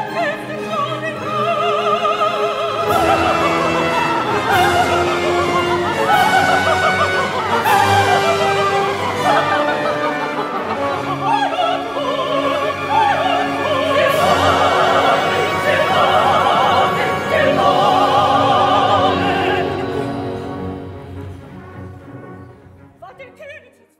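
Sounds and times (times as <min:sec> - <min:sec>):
operatic voice singing: 0:00.0 - 0:21.0
orchestra playing: 0:00.0 - 0:23.7.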